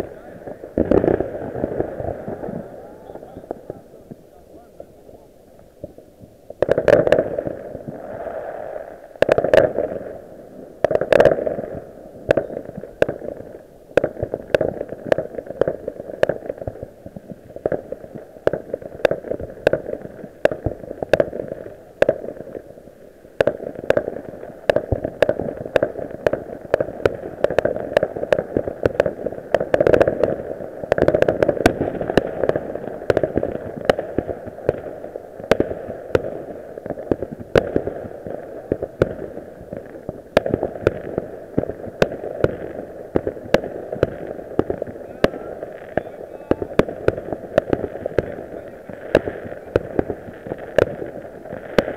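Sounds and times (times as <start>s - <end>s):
fireworks and firecrackers banging: 0.0s - 51.9s.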